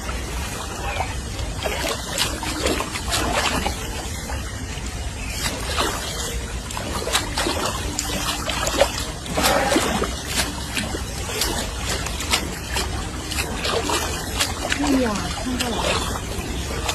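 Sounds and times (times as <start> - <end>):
steady low rumble: 0.0 - 16.9
water splashing and trickling: 0.0 - 16.9.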